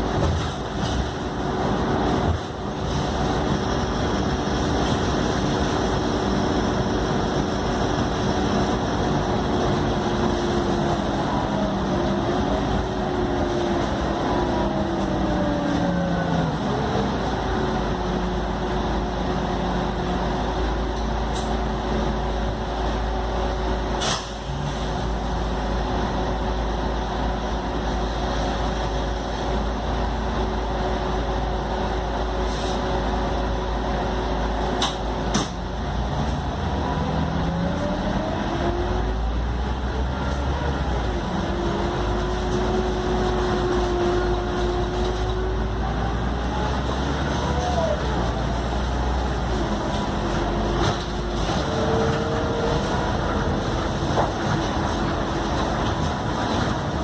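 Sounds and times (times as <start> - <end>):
bus drivetrain whine: 0.0 - 57.0.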